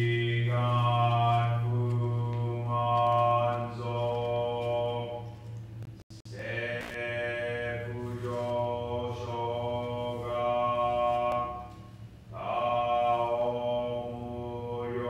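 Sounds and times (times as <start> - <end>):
man chanting: 0.0 - 5.2, 6.3 - 15.0
steady low hum: 0.0 - 15.0.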